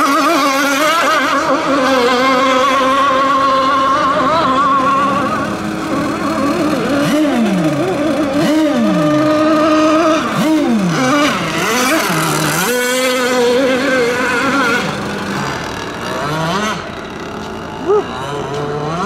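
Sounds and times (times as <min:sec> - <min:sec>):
rc boat engines revving: 0:00.0 - 0:19.0.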